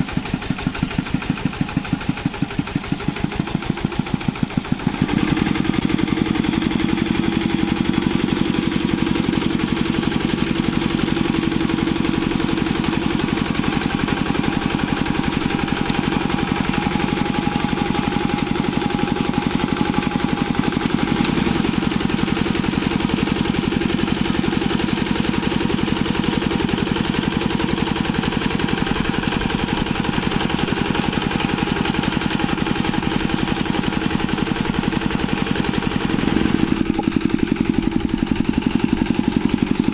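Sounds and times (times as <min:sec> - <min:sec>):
single-cylinder diesel engine running: 0:00.0 - 0:39.9
tiller churning mud: 0:00.0 - 0:39.9.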